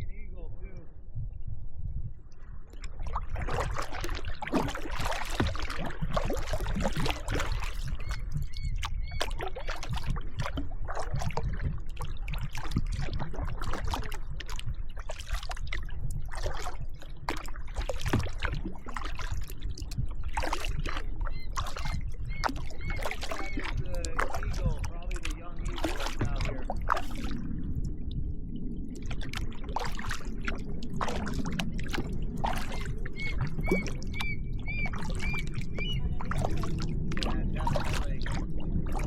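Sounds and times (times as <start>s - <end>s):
steady low rumble: 0.0s - 9.2s, 9.9s - 23.0s, 23.7s - 39.0s
paddle splashes and drips: 2.6s - 39.0s.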